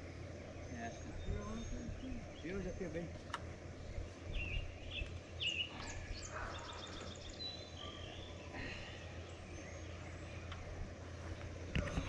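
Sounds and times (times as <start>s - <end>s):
low outdoor rumble: 0.0s - 12.0s
songbirds chirping and trilling: 0.0s - 12.0s.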